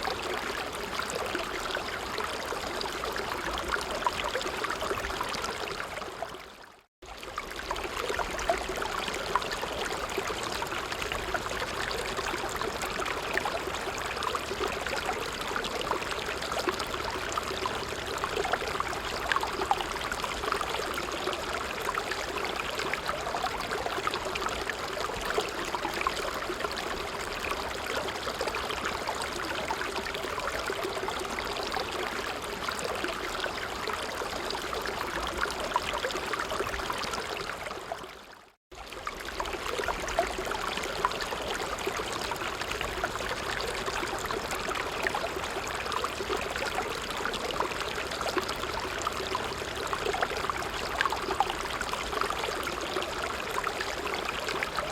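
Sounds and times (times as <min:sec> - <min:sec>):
stream flowing: 0:00.0 - 0:54.9.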